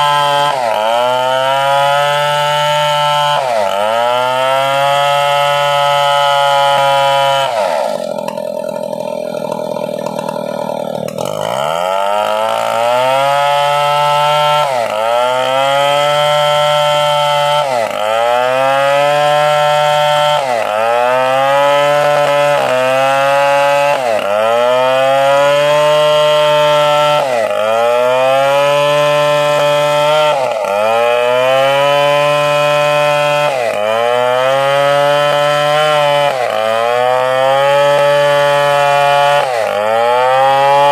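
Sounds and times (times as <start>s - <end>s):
chainsaw sawing wood: 0.0s - 40.9s.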